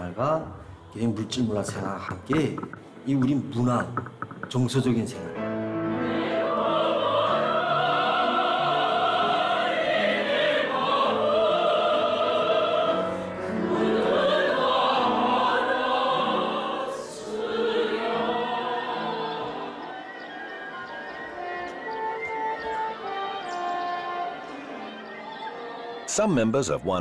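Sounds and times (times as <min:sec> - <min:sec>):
operatic singing voices: 0:00.0 - 0:26.2.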